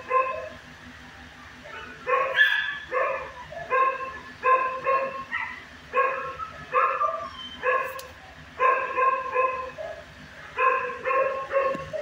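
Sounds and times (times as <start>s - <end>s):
dog barking: 0.0s - 0.6s, 1.7s - 12.0s.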